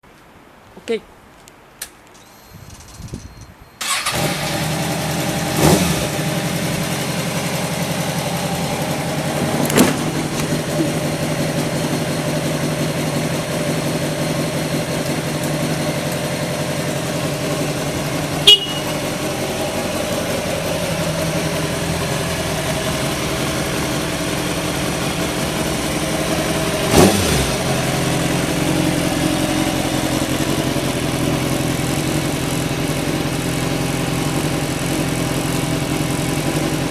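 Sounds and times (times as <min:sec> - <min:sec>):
motorcycle engine starting: 0:02.2 - 0:36.9
motorcycle engine idling: 0:03.8 - 0:36.9.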